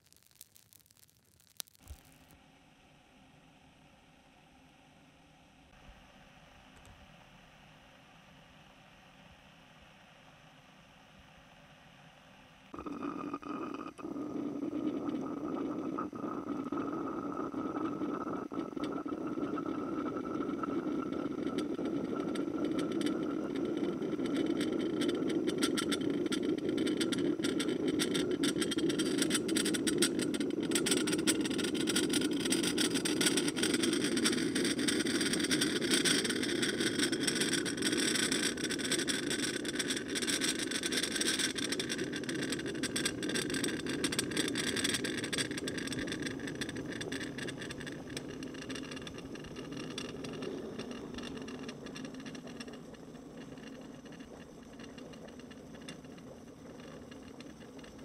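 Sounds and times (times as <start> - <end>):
siphon coffee maker bubbling: 0.0 - 2.3, 12.7 - 58.0.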